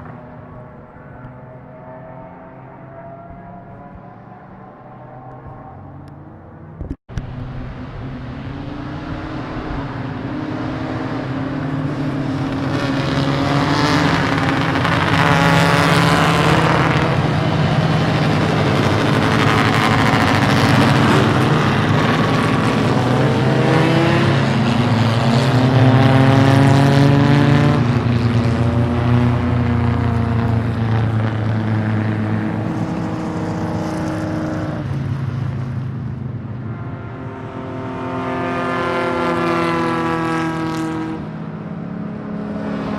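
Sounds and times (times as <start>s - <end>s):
racing car engines accelerating: 0.0s - 42.9s.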